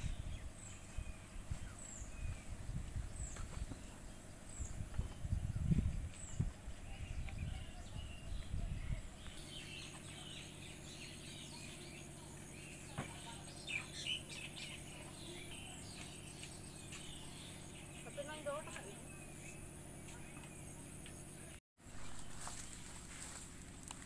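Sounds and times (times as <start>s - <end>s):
birds chirping: 0.0s - 21.6s.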